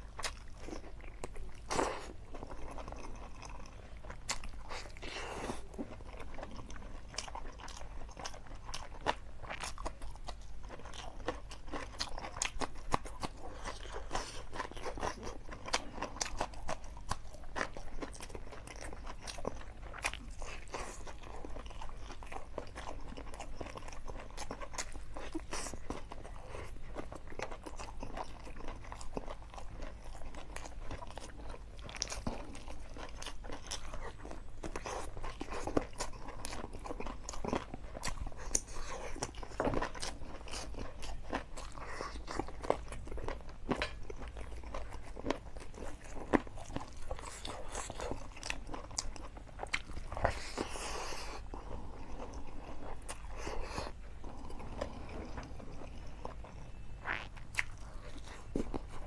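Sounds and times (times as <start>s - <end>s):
person chewing with open mouth: 0.0s - 59.0s.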